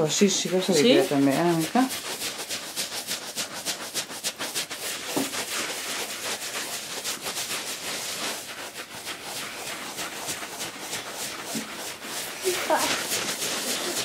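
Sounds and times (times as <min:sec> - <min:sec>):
sponge brushing over hair: 0:00.0 - 0:14.0.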